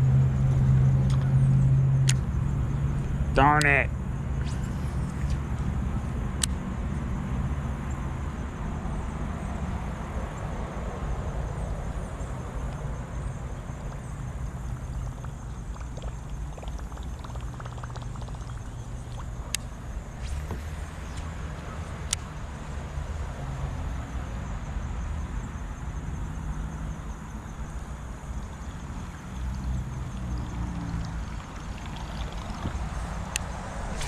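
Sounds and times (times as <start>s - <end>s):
road traffic hum: 0.0s - 34.0s.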